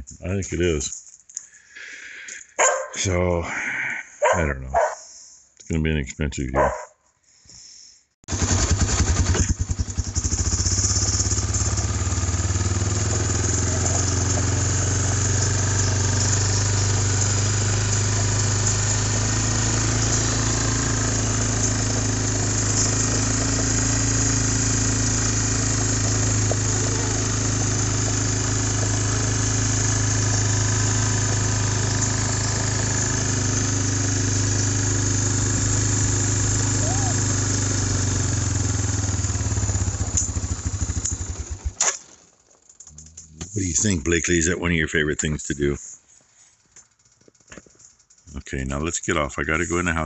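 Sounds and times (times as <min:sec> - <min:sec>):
farm vehicle engine running: 0:08.3 - 0:50.0.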